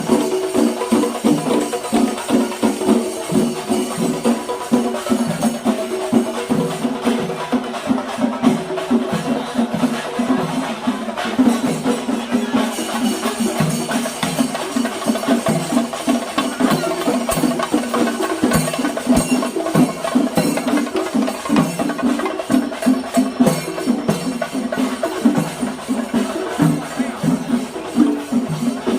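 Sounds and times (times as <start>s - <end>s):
percussion ensemble drumming: 0.0s - 28.9s.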